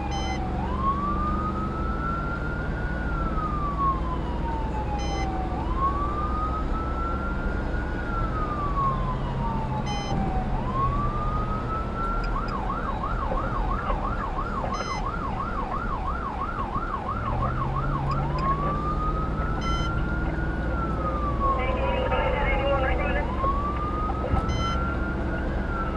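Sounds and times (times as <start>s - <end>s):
engine and road noise: 0.0s - 25.9s
siren wailing and yelping: 0.0s - 25.9s.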